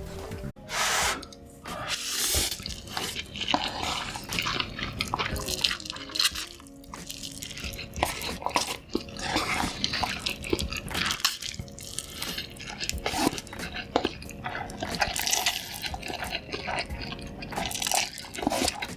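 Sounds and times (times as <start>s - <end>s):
faint background music: 0.0s - 18.9s
wet chewing and mouth smacks: 2.4s - 18.9s.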